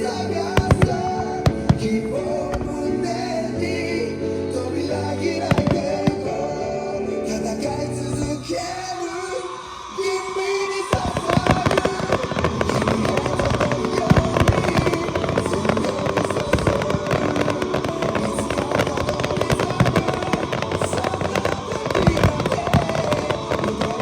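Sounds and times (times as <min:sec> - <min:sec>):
fireworks bangs and crackles: 0:00.0 - 0:03.2, 0:05.3 - 0:07.0, 0:07.6 - 0:24.0
music playing: 0:00.0 - 0:24.0.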